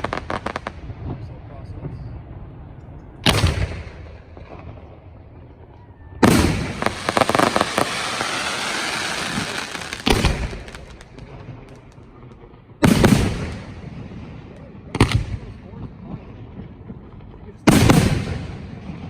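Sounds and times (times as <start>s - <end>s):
fireworks booming: 0.0s - 19.0s
fireworks crackling and hissing: 0.0s - 19.0s.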